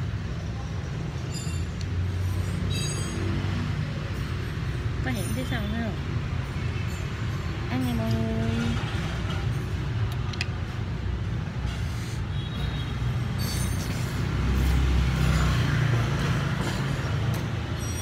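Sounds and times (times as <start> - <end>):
road traffic rumbling: 0.0 - 18.0.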